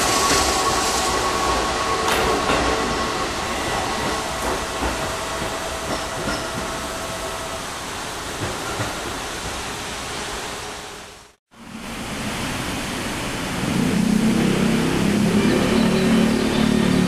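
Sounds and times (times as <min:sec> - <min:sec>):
train rushing noise: 0:00.0 - 0:17.0.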